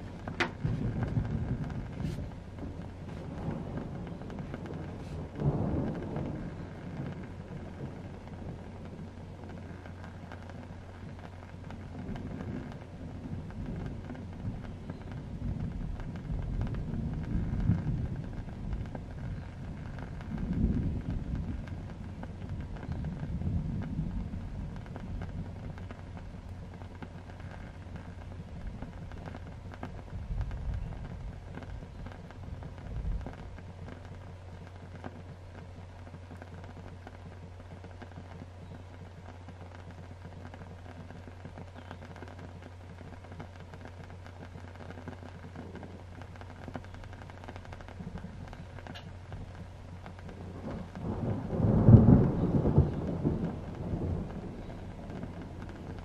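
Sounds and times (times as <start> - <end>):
faint low hum: 0.0 - 56.0
low rolls of thunder: 0.0 - 56.0
steady rain: 0.0 - 56.0.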